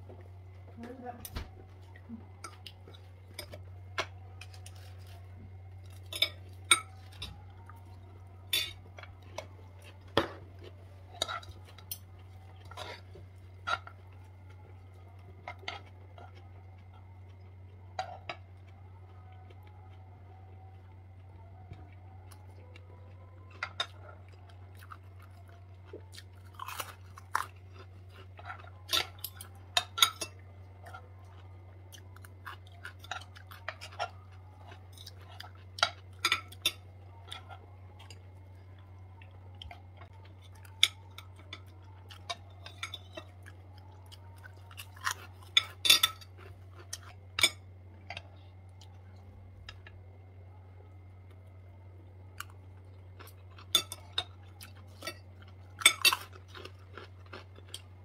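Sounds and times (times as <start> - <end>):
steady low hum: 0.0 - 58.0
chewing: 1.6 - 50.2, 52.0 - 58.0.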